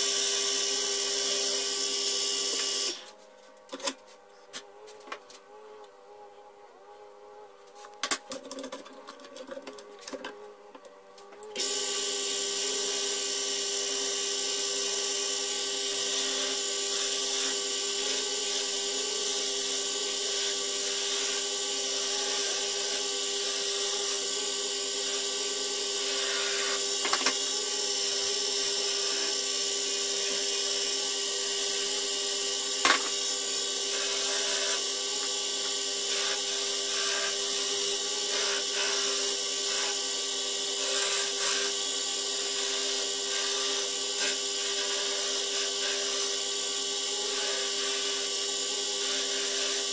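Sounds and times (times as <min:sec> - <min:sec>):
tool cutting wood on lathe: 0:00.0 - 0:03.2, 0:06.9 - 0:49.9
lathe motor hum: 0:08.8 - 0:49.9.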